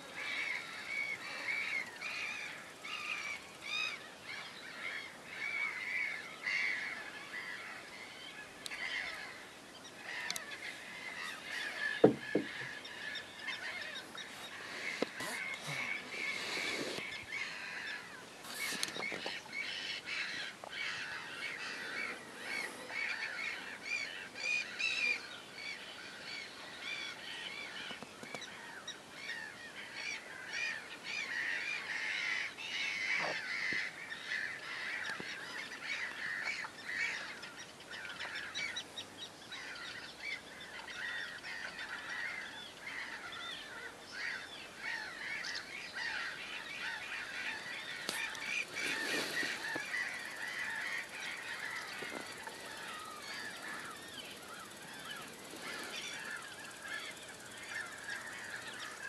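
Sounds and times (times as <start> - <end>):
birds chirping chorus: 0.0 - 59.0.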